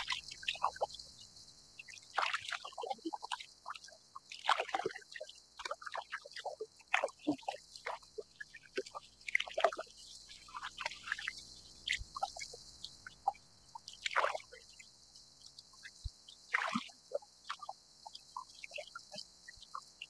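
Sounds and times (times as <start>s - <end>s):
small waves lapping against hull: 0.0s - 20.0s.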